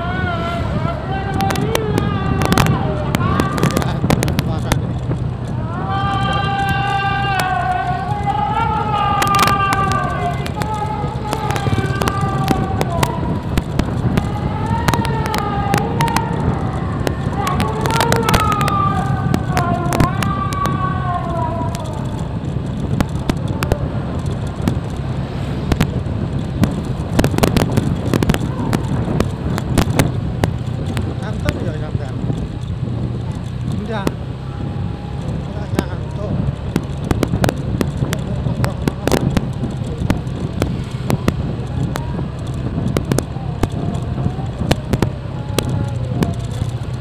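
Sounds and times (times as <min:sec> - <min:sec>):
motorbike rumbling: 0:00.0 - 0:47.0
firecrackers popping: 0:01.4 - 0:05.6, 0:09.1 - 0:34.3, 0:35.2 - 0:47.0.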